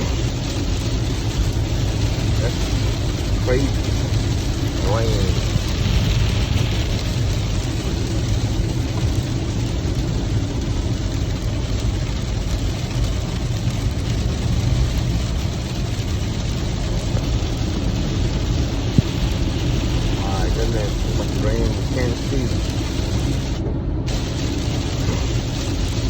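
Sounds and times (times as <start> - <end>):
car engine and road hum: 0.0 - 26.0
rain hissing on wet road: 0.0 - 26.0.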